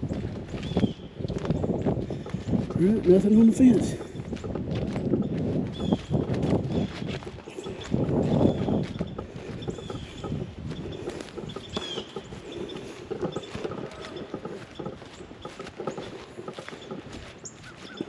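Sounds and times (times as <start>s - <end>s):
footsteps on muddy ground: 0.0s - 18.0s.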